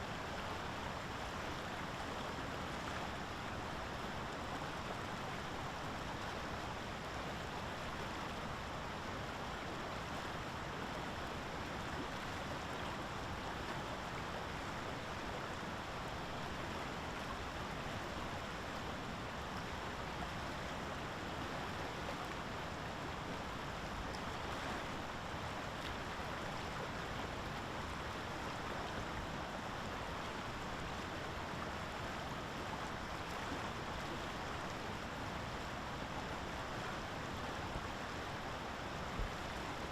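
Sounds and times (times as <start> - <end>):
water rushing: 0.1 - 39.9.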